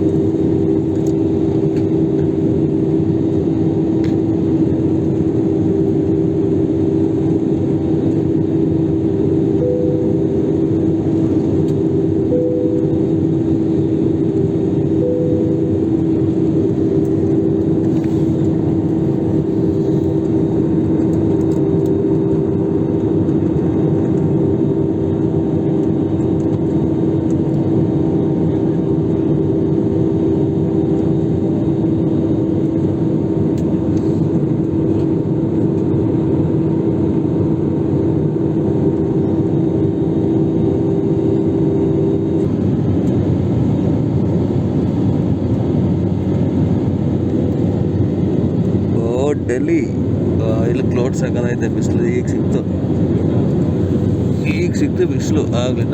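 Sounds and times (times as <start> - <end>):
jet airliner cabin drone: 0.0 - 55.9
steady hum: 0.0 - 55.9.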